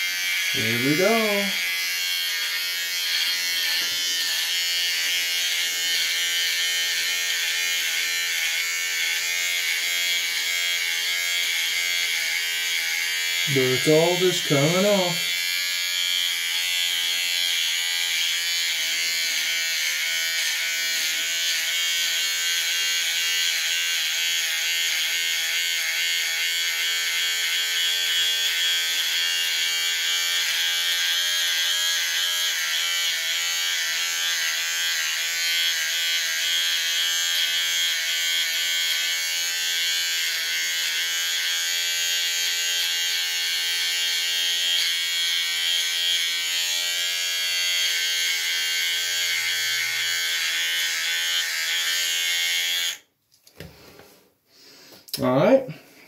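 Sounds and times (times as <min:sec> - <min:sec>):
electric shaver buzzing: 0:00.0 - 0:53.7.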